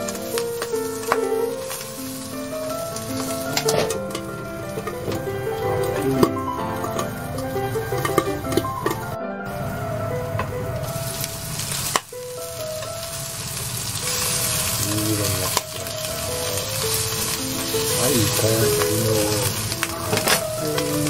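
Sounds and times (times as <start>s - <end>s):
background music: 0.0s - 21.0s
squid sizzling in a frying pan: 0.0s - 21.0s.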